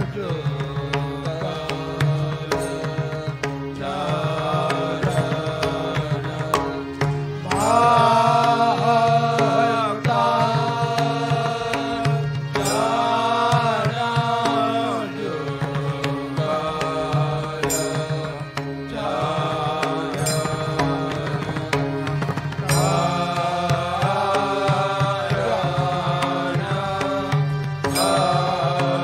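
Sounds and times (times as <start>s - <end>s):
devotional hymn singing: 0.0s - 29.0s
percussion strikes: 0.0s - 29.0s
steady drone: 0.1s - 29.0s.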